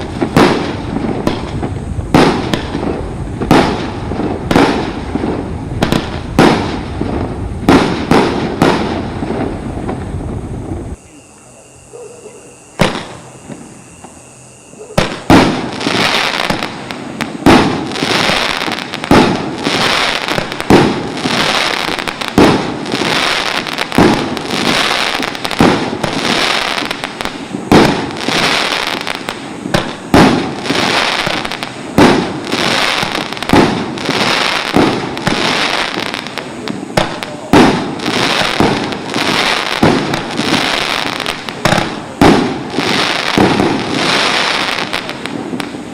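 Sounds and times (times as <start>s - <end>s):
fireworks bursts: 0.0s - 45.9s
fireworks crackling: 0.0s - 45.9s.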